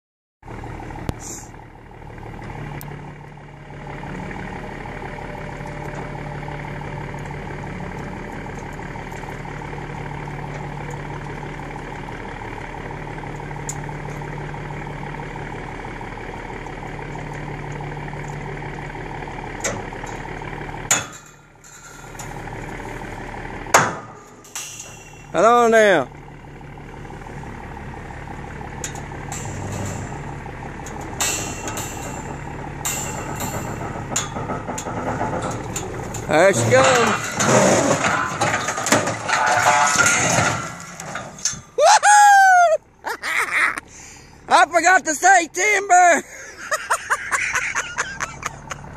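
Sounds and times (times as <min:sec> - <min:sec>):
engine idling: 0:00.4 - 0:48.9.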